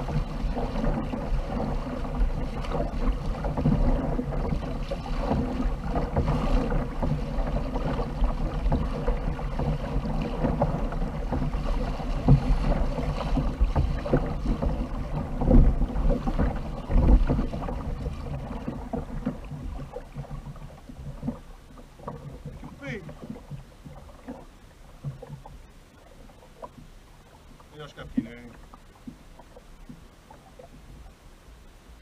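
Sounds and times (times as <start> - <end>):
water rushing along kayak hull: 0.0 - 32.0
wind rumbling on microphone: 0.0 - 32.0.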